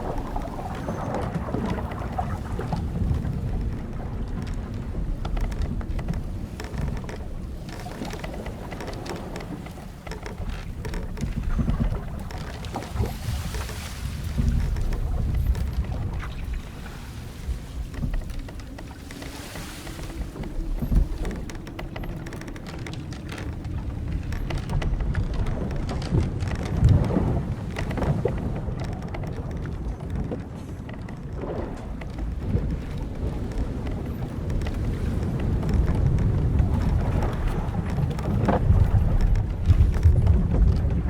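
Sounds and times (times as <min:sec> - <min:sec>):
ship timbers creaking: 0:00.0 - 0:41.0
wind and sea rumble: 0:00.0 - 0:41.0.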